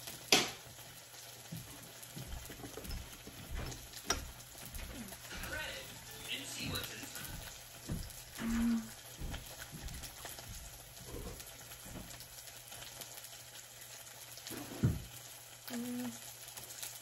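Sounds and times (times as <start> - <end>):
meat sizzling on griddle: 0.0 - 17.0.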